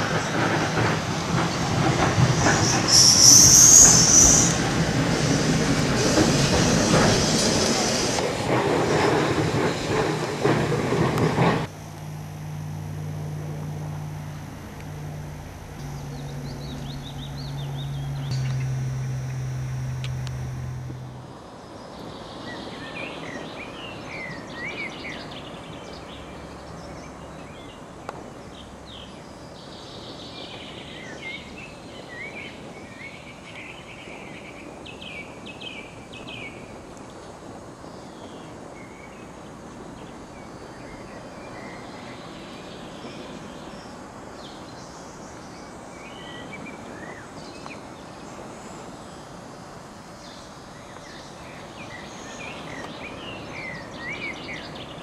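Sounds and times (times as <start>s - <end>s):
open-air background hiss: 0.0s - 55.0s.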